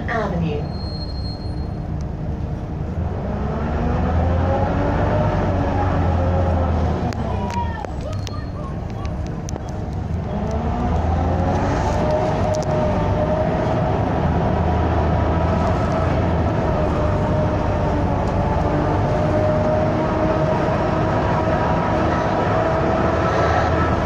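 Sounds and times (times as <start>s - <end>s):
bus engine running: 0.0s - 24.0s
bus whine: 0.0s - 24.0s.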